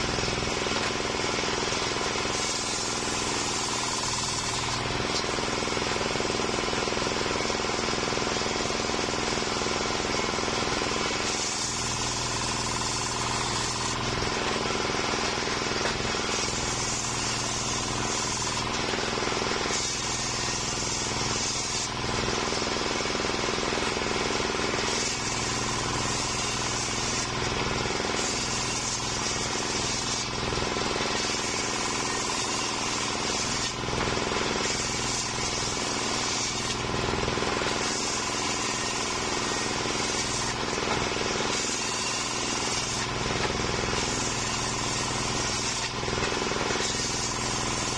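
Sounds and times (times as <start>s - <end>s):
circular saw cutting wood: 0.0s - 47.9s.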